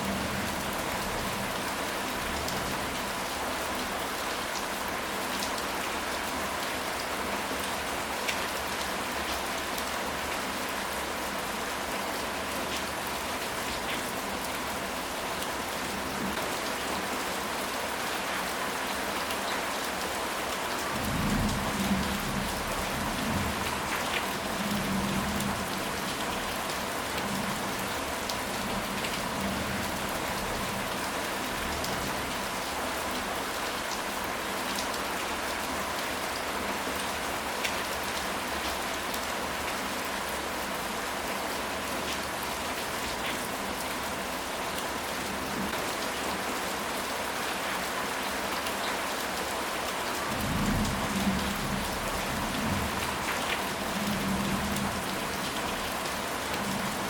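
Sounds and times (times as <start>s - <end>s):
steady rain on a surface: 0.0s - 57.0s.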